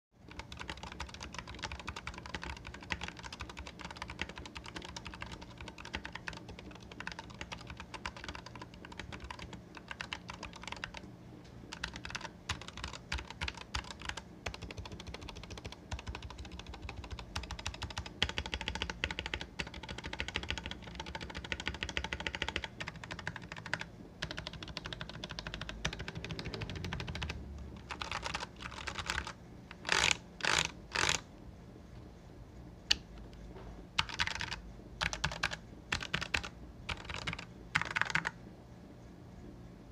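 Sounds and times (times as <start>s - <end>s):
mechanical keyboard typing clicks: 0.3s - 11.0s, 11.7s - 31.2s, 34.0s - 38.4s.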